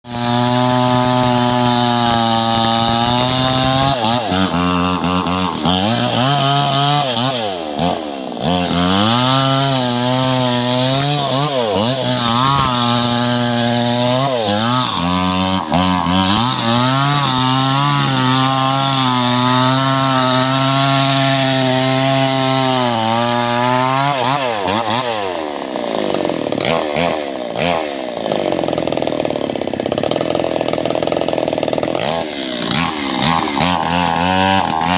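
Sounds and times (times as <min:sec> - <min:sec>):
chainsaw engine cutting wood: 0:00.0 - 0:34.9.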